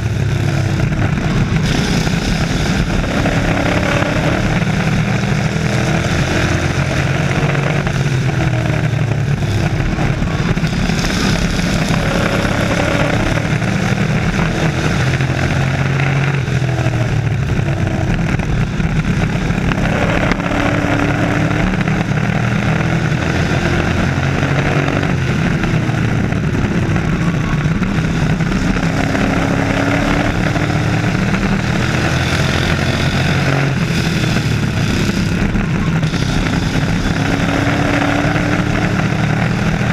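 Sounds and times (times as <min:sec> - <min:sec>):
race truck engines: 0:00.0 - 0:39.9.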